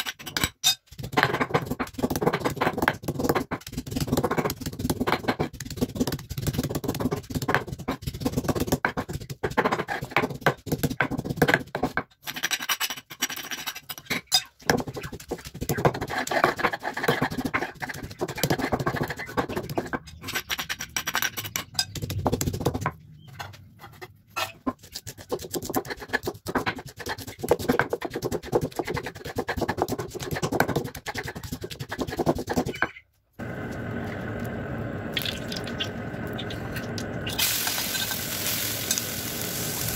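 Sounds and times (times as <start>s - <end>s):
stone pestle knocking and scraping: 0.0s - 33.0s.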